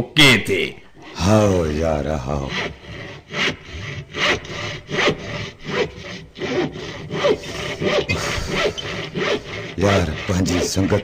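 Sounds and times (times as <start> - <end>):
rhythmic rasping strokes: 1.0 - 11.0.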